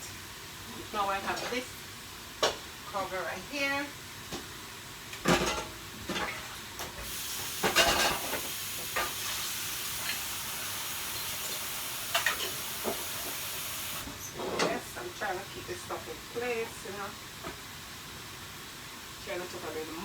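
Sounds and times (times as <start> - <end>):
steam hissing from pot: 0.0 - 5.1, 6.6 - 20.0.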